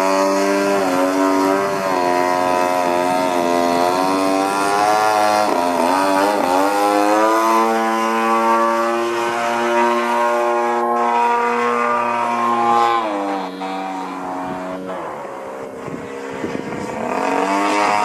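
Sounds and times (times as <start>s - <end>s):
model plane engine and propeller: 0.0s - 18.0s.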